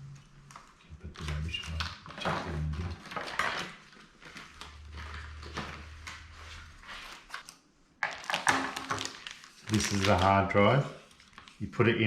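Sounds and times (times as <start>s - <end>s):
packaging rustling: 0.4s - 11.6s.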